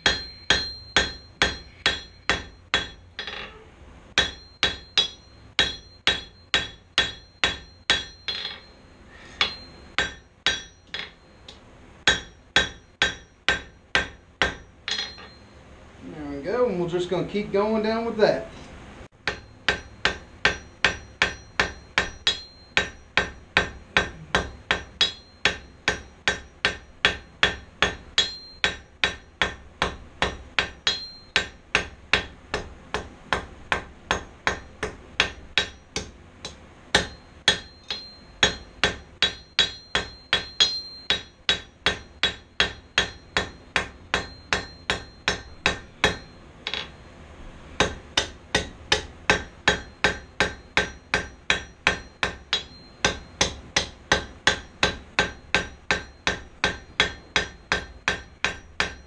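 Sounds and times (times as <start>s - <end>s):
hammer striking steel on anvil: 0.0s - 15.6s, 19.1s - 47.2s, 47.8s - 59.0s.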